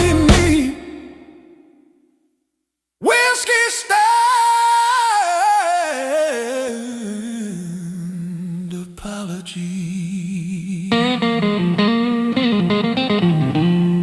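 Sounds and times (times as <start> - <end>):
wordless singing with vibrato: 0.0 - 2.1, 3.0 - 12.4.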